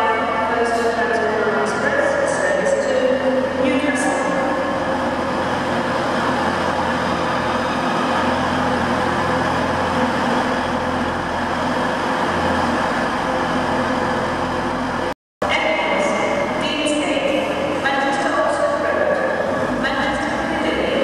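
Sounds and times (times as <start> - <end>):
stationary train humming: 0.0 - 21.0.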